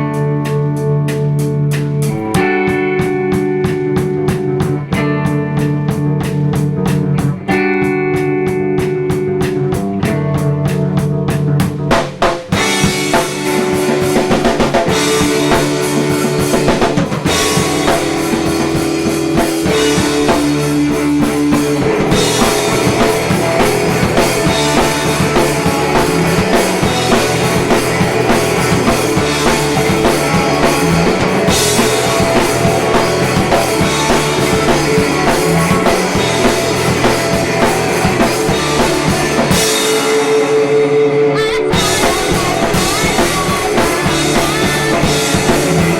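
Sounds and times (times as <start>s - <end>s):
rock band playing live: 0.0s - 45.9s.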